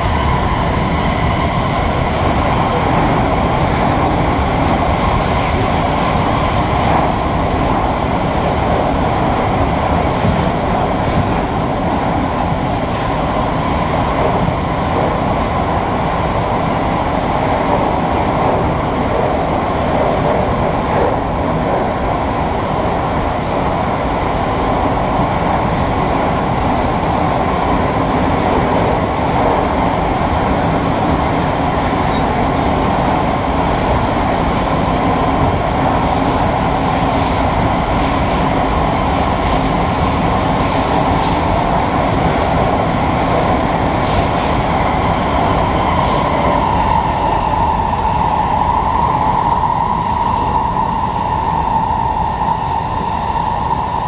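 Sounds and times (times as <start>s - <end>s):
train rolling rumble: 0.0s - 54.0s.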